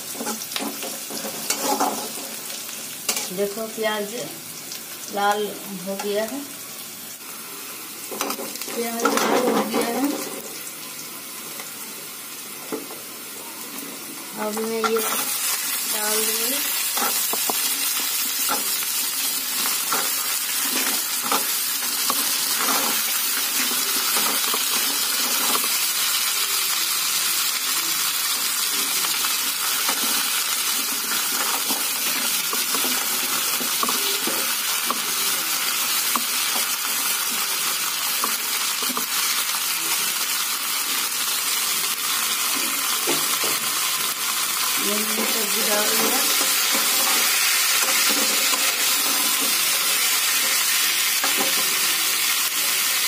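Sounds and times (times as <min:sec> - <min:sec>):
vegetables sizzling in hot oil: 0:00.0 - 0:53.0.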